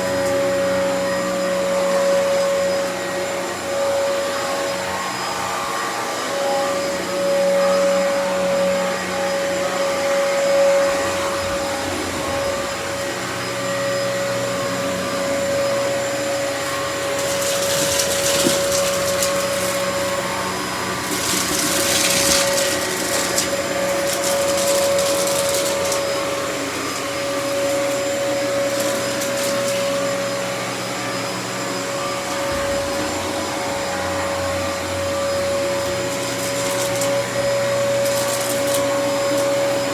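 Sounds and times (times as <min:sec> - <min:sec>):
vacuum air hiss: 0:00.0 - 0:39.9
vacuum cleaner motor whine: 0:00.0 - 0:39.9.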